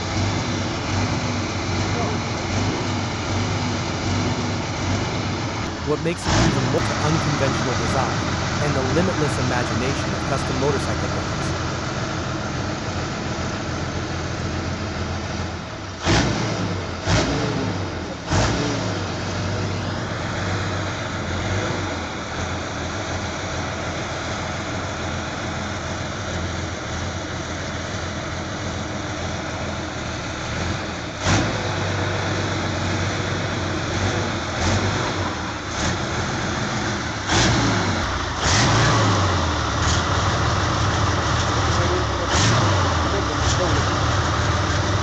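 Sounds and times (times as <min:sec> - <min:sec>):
loud engine bangs: 0:00.0 - 0:45.0
motorcycle engine running loudly: 0:00.0 - 0:45.0.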